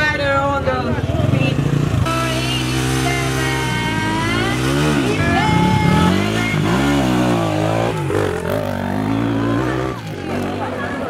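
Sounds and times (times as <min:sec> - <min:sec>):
dirt bike engine revving: 0:01.1 - 0:11.0.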